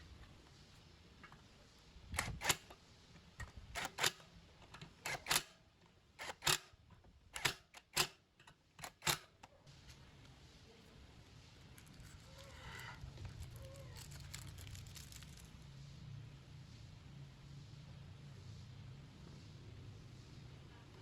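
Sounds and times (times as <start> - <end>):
low steady background noise: 0.0 - 21.0.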